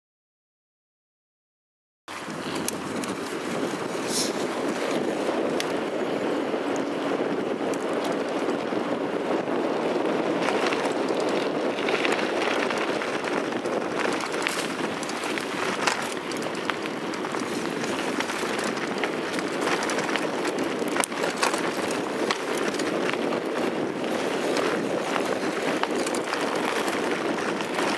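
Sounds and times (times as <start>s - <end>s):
bike rattles and clicks: 2.1s - 27.9s
bike tyres rolling on gravel: 2.1s - 27.9s.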